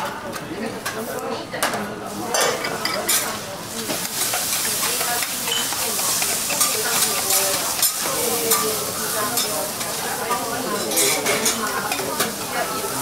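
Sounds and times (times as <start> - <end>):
food sizzling on a griddle: 2.0 - 13.0
metal utensils clicking on griddle: 2.4 - 12.9.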